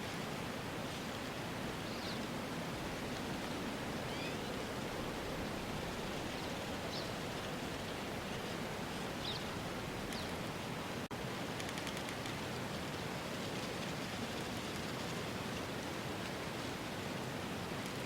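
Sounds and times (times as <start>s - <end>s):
rushing outdoor ambience: 0.0s - 18.0s.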